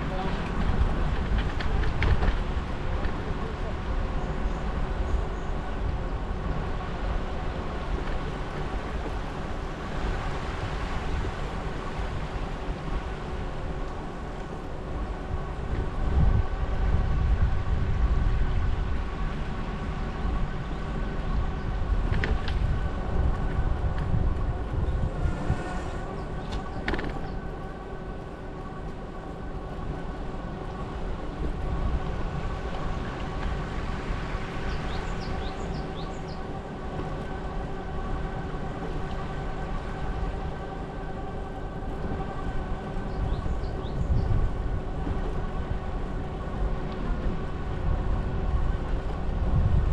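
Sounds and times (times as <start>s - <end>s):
steady tonal hum: 0.0s - 49.9s
wind rumbling on microphone: 0.0s - 49.9s.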